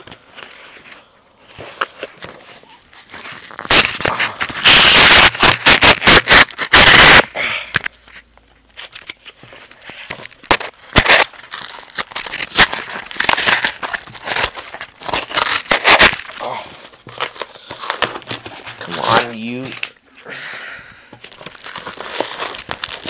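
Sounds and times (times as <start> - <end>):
clicks and rustles: 0.0 - 20.0
package crackling and tearing: 1.6 - 8.0, 8.7 - 20.0, 21.2 - 23.0.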